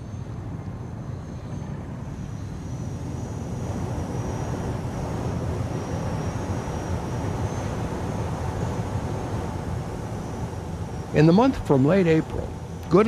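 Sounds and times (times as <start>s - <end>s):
aircraft rumbling drone: 0.0s - 13.0s.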